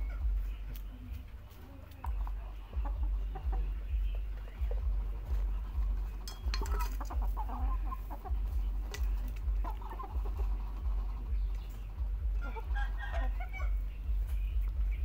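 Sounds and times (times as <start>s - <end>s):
chickens clucking: 0.0s - 15.0s
low uneven rumble: 0.0s - 15.0s.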